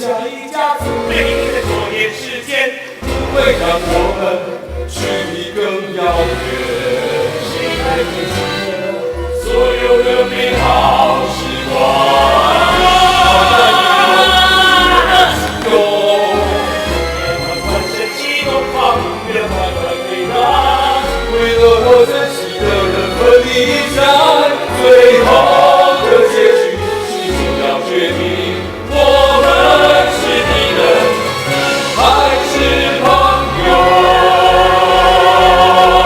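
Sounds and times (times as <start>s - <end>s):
voices singing: 0.0s - 36.0s
orchestral backing with bass line: 0.8s - 36.0s.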